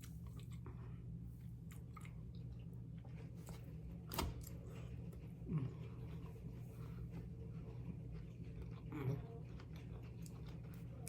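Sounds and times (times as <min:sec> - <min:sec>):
person chewing food: 0:00.0 - 0:11.0
steady low hum: 0:00.0 - 0:11.0.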